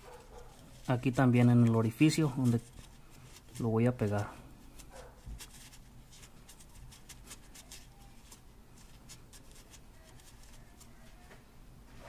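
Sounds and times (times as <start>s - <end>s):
faint rubbing: 0.0s - 12.0s.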